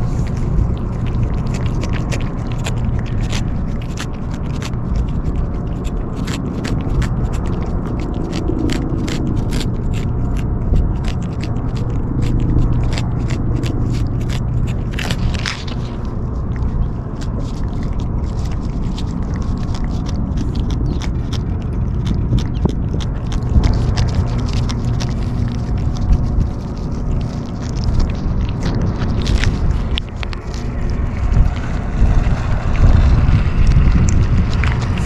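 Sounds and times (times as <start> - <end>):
kittens chewing food: 0.0 - 35.0
strong wind on microphone: 0.0 - 35.0.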